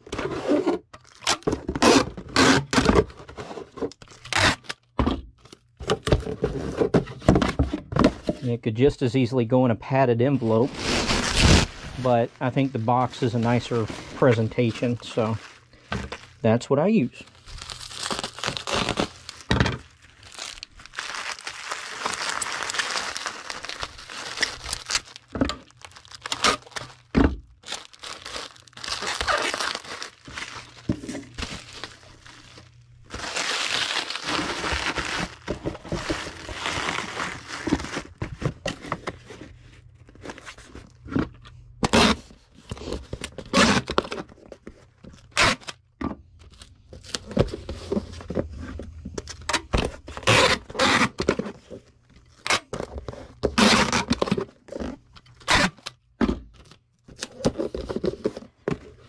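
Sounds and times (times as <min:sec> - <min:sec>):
packing material crinkling: 0:00.5 - 0:05.8, 0:10.2 - 0:41.3, 0:41.9 - 0:45.8, 0:46.4 - 0:59.0.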